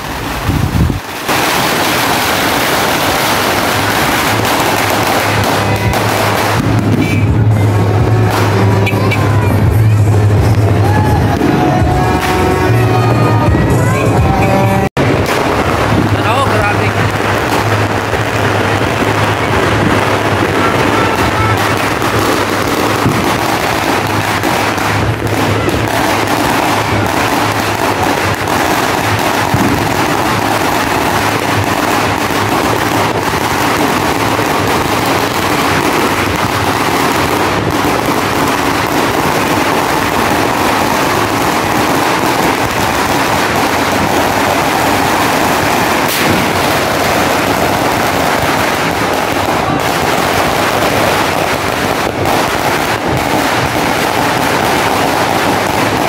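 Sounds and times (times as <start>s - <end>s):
firecrackers crackling: 0.0s - 56.0s.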